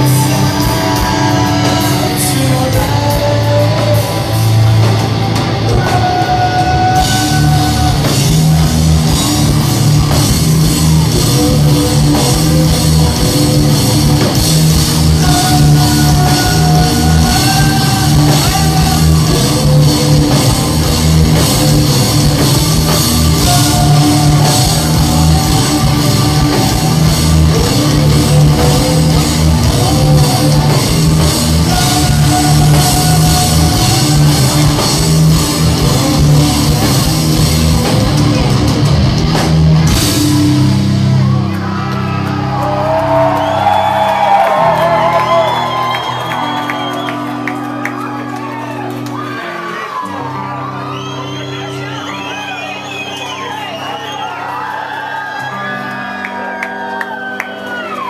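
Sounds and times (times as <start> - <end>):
drum kit: 0.0 - 49.4
distorted guitars: 0.0 - 58.0
rock singing: 0.0 - 58.0.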